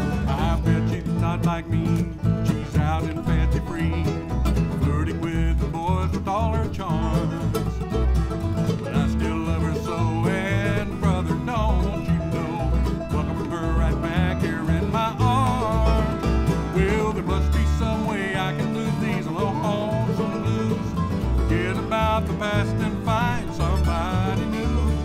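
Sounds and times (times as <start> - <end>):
acoustic guitar: 0.0 - 25.0
banjo: 0.0 - 25.0
fiddle: 0.0 - 25.0
mandolin: 0.0 - 25.0
upright bass: 0.0 - 25.0.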